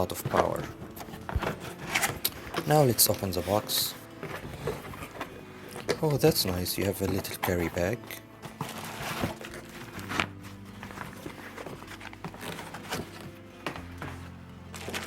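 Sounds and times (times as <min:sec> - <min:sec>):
packaging rustling and crinkling: 0:00.0 - 0:15.0
soft background music: 0:00.0 - 0:15.0.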